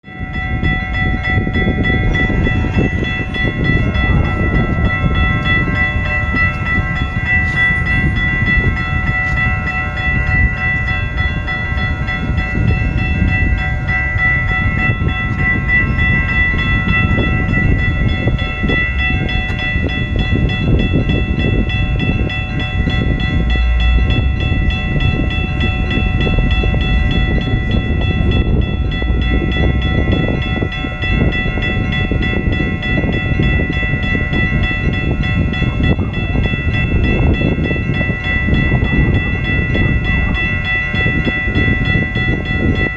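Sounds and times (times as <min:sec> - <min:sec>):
railroad crossing bell ringing: 0:00.0 - 0:42.9
wind rumble on microphone: 0:00.0 - 0:42.9.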